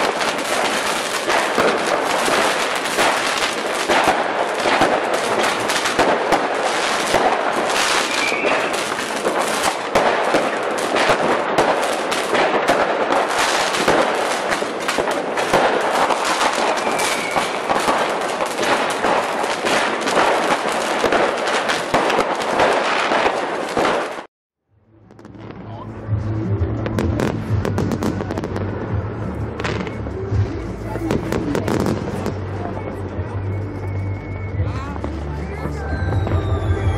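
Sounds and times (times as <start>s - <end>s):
fireworks crackling and banging: 0.0s - 24.3s, 25.0s - 36.9s.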